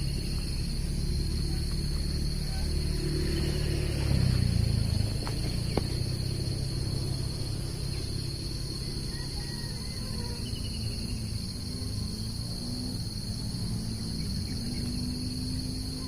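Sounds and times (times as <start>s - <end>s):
insects chorus drone: 0.0s - 16.0s
low rumbling drone: 0.0s - 16.0s.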